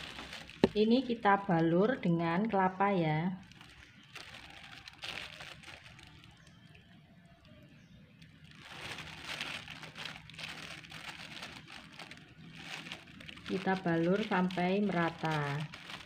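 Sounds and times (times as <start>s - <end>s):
plastic bag crinkling: 0.0s - 2.0s, 3.3s - 16.0s.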